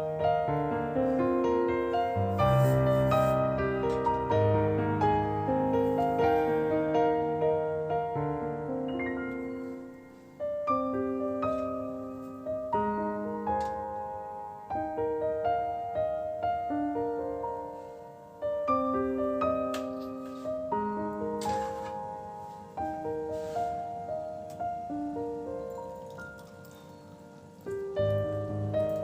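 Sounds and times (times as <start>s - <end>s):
soft piano music: 0.0s - 29.0s.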